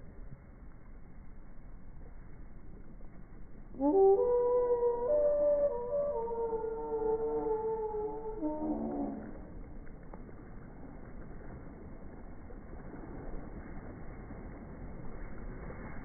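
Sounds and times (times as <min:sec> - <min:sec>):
deep rumbling wind: 0:00.0 - 0:16.0
low wavering tone: 0:00.0 - 0:16.0.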